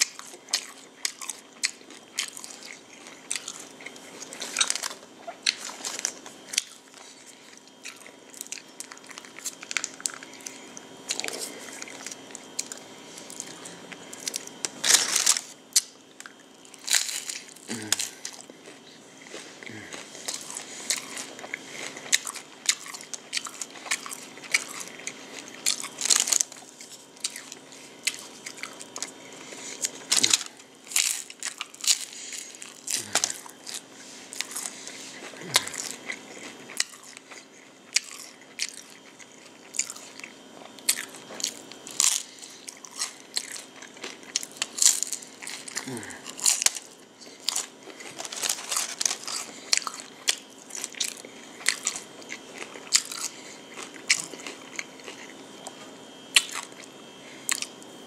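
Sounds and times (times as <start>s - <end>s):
crunchy taco shell cracking: 0.0s - 18.8s, 19.4s - 34.8s, 35.4s - 56.8s
chewing: 0.0s - 57.9s.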